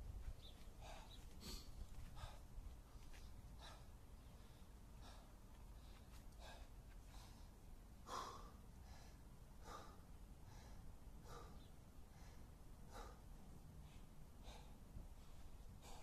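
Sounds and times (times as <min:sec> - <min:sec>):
man breathing heavily: 0:00.5 - 0:16.0.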